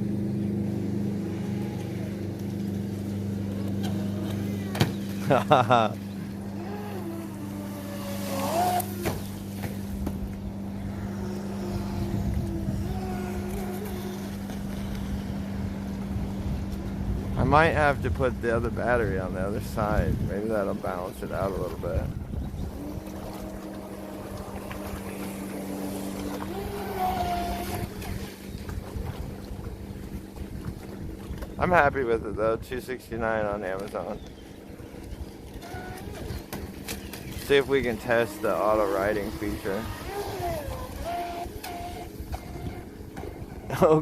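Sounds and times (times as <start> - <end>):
electric motor whine: 0.0 - 18.0, 20.6 - 31.5, 34.3 - 43.8
low hum: 0.0 - 44.0
wind on microphone: 6.4 - 44.0.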